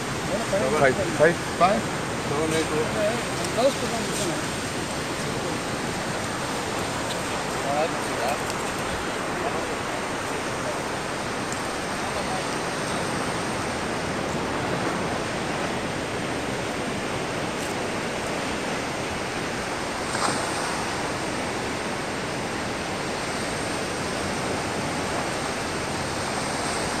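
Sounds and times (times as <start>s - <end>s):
surf rushing: 0.0s - 27.0s
wind: 0.0s - 27.0s.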